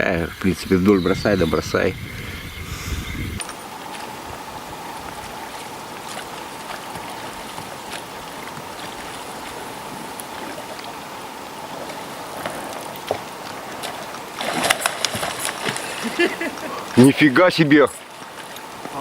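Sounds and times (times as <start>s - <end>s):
faint hum: 0.0s - 19.0s
river water rushing: 3.4s - 19.0s.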